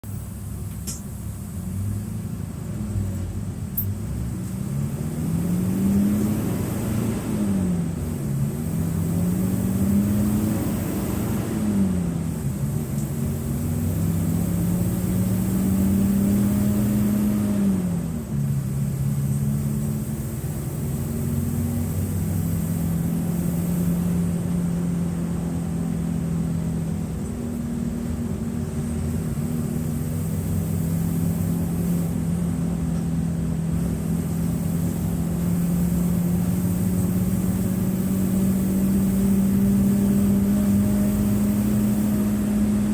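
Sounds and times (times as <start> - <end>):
bus diesel engine accelerating: 0.0 - 42.9.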